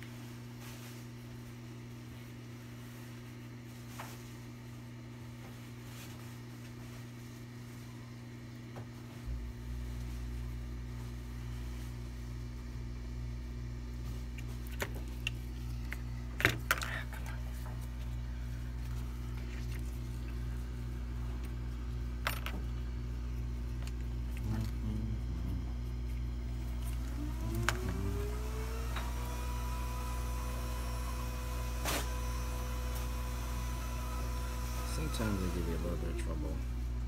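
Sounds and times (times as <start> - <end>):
hot-air blower humming: 0.0 - 37.0.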